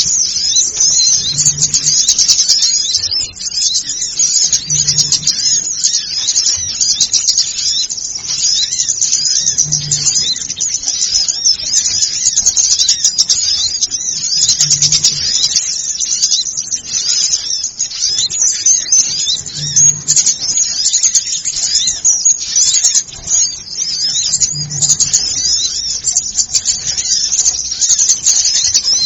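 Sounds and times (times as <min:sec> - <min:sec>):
songbirds chattering: 0:00.0 - 0:29.0.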